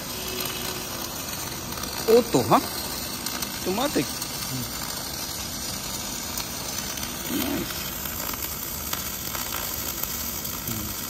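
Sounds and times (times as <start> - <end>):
welding arc hissing: 0.0 - 11.0.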